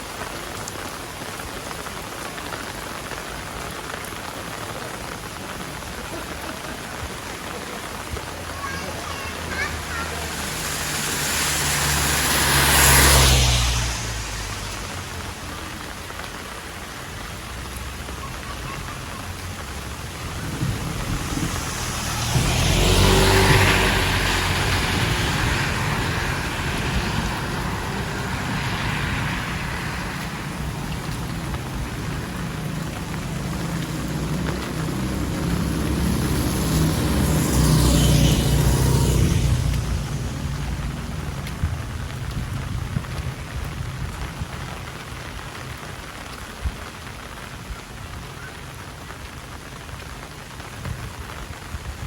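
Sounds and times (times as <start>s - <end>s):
heavy rain hissing: 0.0s - 52.0s
road vehicles passing: 0.0s - 52.0s.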